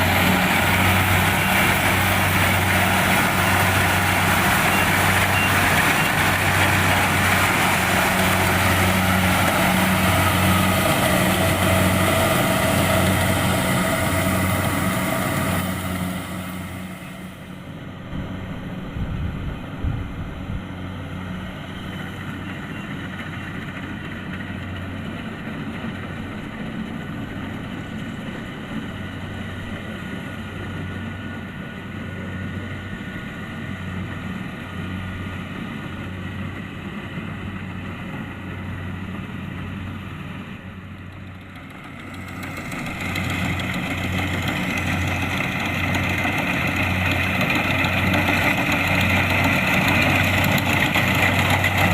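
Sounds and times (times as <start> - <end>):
combine harvester engine drone: 0.0 - 51.9.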